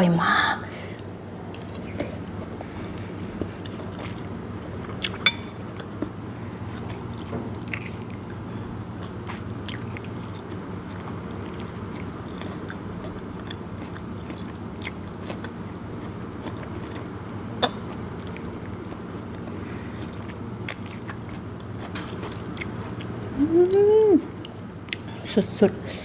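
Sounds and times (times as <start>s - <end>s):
steady low hum: 0.0s - 26.0s
chewing crunchy food: 1.0s - 23.2s.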